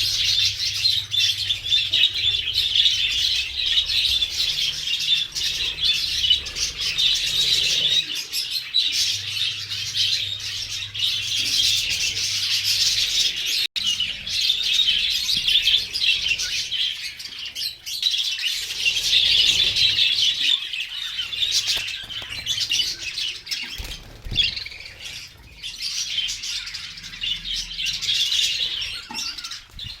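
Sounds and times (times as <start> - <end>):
budgerigars chattering and chirping: 0.0 - 30.0.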